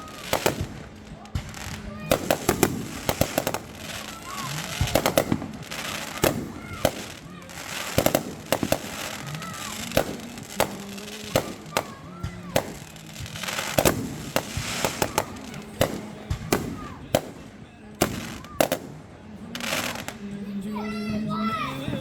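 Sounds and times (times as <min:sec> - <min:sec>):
fireworks bangs and cracks: 0:00.0 - 0:20.3.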